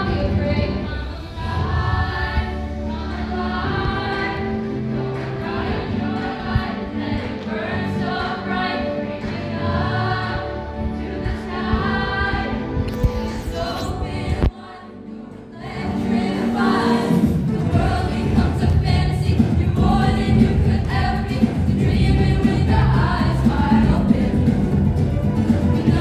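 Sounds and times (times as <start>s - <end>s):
backing music: 0.0s - 26.0s
group singing a show tune: 0.0s - 26.0s.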